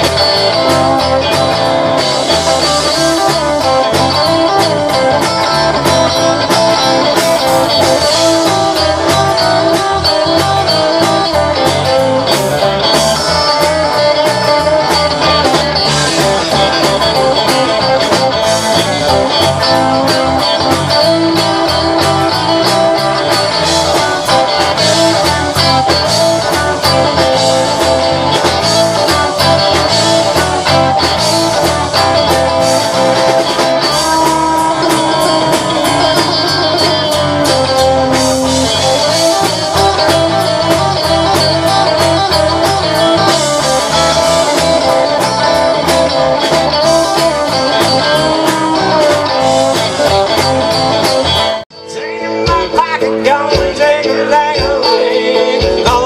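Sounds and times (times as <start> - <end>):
steady drum beat: 0.0 - 51.7, 52.5 - 56.0
electric bass: 0.0 - 56.0
electric guitars: 0.0 - 56.0.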